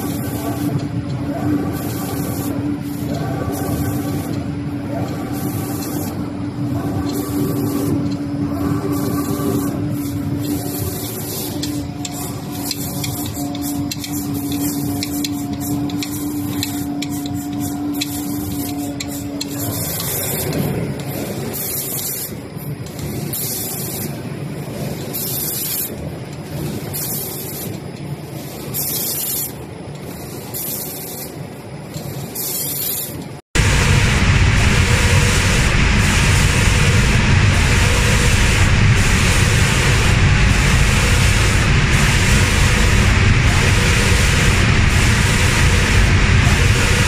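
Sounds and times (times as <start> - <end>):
machine hum: 0.0 - 25.1, 33.4 - 47.0
spray guns hissing: 0.0 - 47.0.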